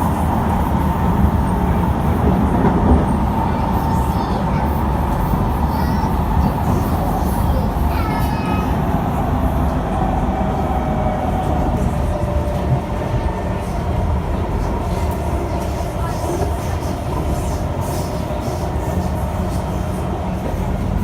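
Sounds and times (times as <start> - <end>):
faint train whine: 0.0 - 21.0
train wheels on rail: 0.0 - 21.0.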